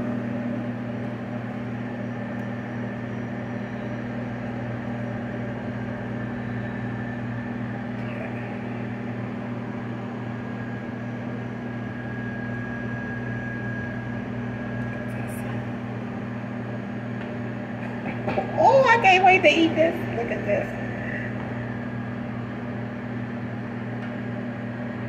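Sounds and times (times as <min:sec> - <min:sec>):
appliance hum with high whine: 0:00.0 - 0:25.0.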